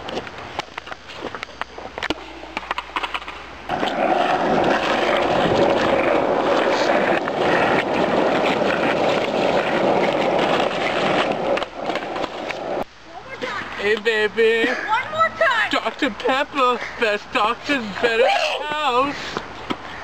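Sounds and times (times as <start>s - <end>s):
skateboard wheels rolling on asphalt: 0.0s - 20.0s.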